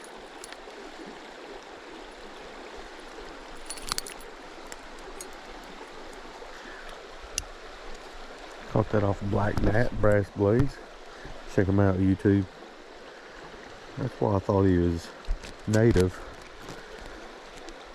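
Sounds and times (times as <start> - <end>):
river water flowing over rocks: 0.0 - 17.9.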